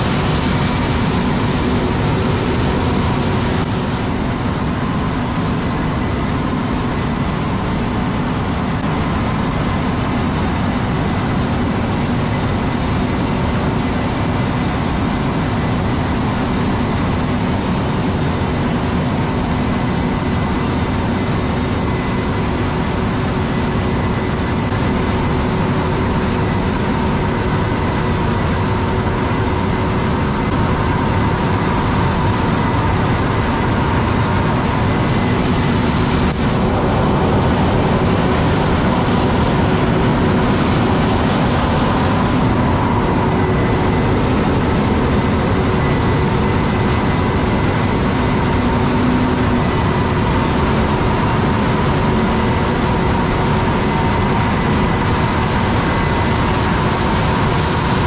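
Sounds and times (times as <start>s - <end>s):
diesel farm machinery rumbling: 0.0s - 58.0s.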